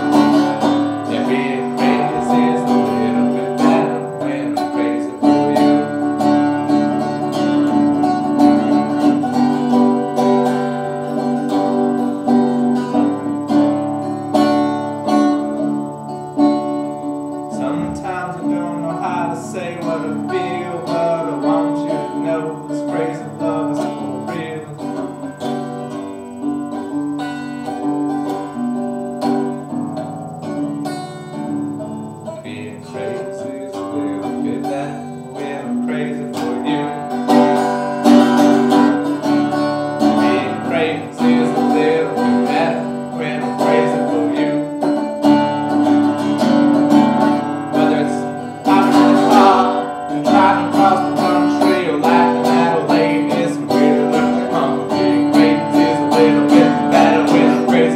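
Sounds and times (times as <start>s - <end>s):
resonator guitar strummed and picked: 0.0s - 57.9s.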